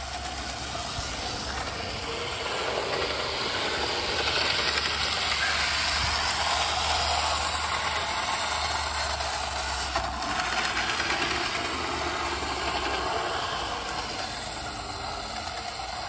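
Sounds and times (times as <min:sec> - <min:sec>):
model train wheels rattling on rails: 0:00.0 - 0:16.0.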